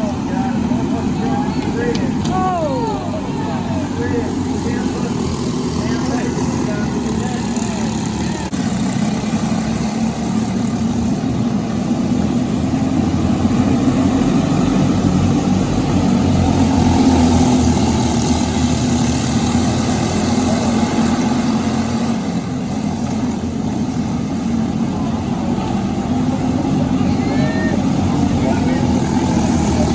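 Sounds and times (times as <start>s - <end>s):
kart engine running: 0.0s - 29.9s.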